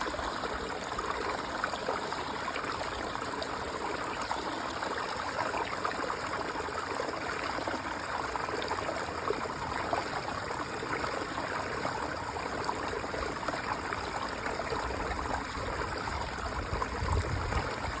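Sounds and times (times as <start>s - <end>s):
water rushing trickle: 0.0s - 18.0s.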